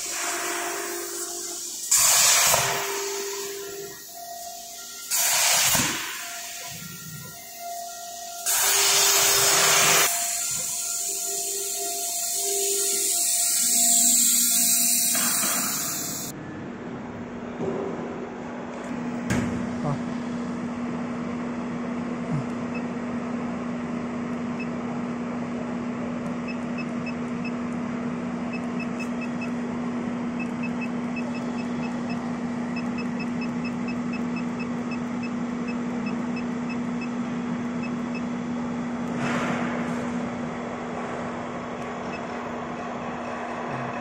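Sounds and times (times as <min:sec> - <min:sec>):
machine hum: 0:00.0 - 0:44.0.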